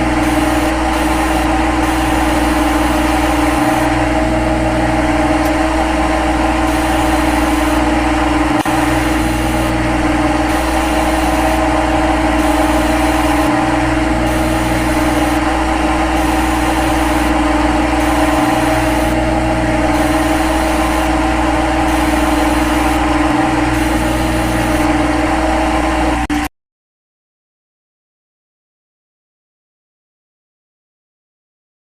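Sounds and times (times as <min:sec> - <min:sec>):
lathe running with mechanical hum: 0:00.0 - 0:26.5.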